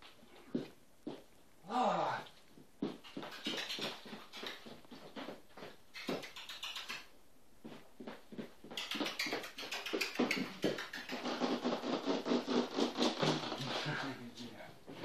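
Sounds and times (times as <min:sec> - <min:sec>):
dog paws tapping on floor: 0:00.0 - 0:01.4, 0:02.2 - 0:15.0.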